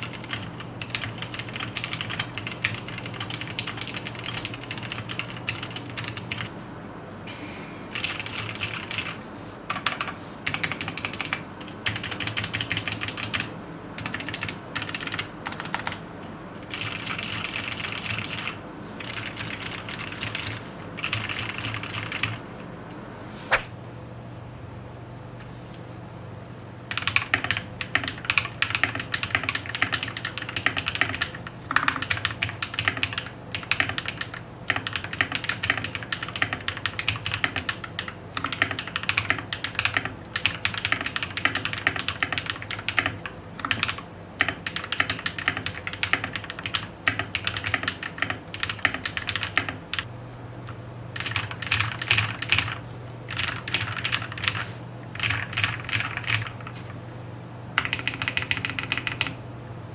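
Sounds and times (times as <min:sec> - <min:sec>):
mechanical keyboard typing: 0:00.0 - 0:06.5, 0:07.9 - 0:16.0, 0:16.7 - 0:22.4, 0:26.9 - 0:50.1, 0:51.2 - 0:56.8, 0:57.8 - 0:59.4.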